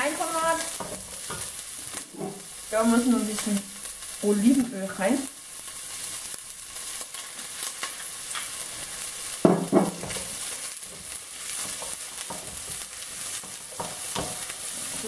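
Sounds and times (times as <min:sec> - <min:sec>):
onion and garlic sizzling in oil: 0:00.0 - 0:15.0.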